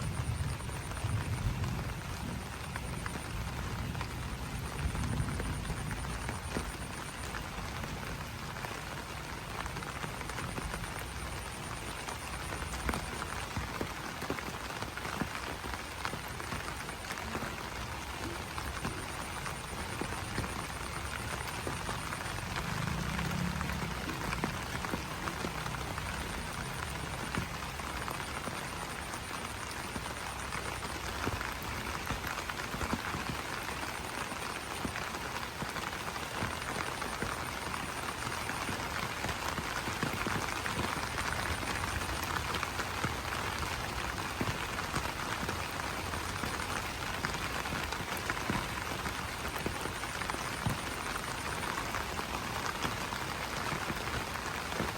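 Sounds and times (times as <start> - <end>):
rain on leaves: 0.0 - 54.9.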